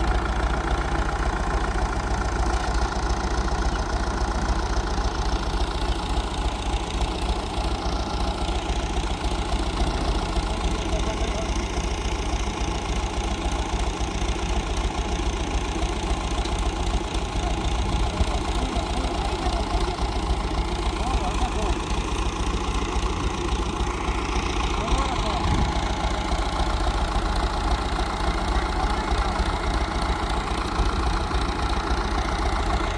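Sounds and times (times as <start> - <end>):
engine running with low pulsing: 0.0 - 32.9.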